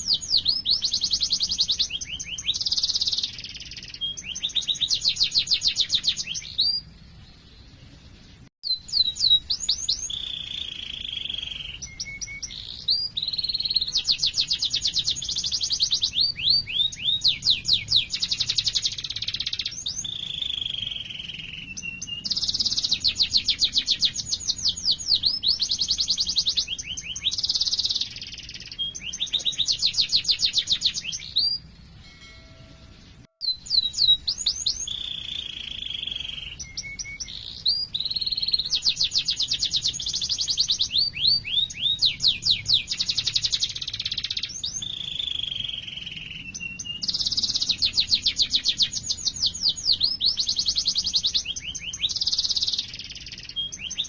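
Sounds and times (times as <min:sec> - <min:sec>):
canary singing: 0:00.0 - 0:32.0, 0:32.9 - 0:54.0.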